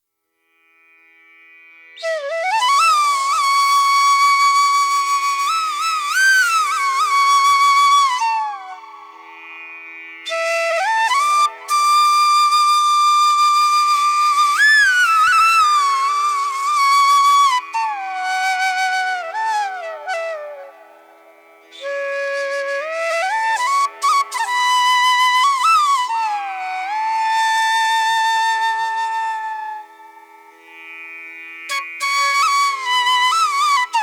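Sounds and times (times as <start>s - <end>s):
flute melody: 2.0s - 9.2s, 10.3s - 30.3s, 31.7s - 34.0s.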